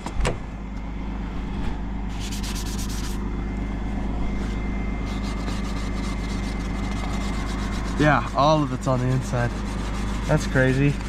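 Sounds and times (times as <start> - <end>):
van engine idling: 0.4 - 11.0.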